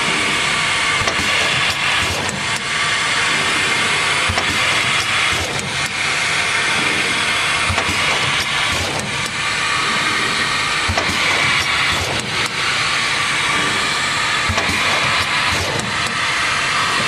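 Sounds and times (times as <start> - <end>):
machine hissing and whirring: 0.0 - 17.0
sharp mechanical clacks: 0.0 - 17.0.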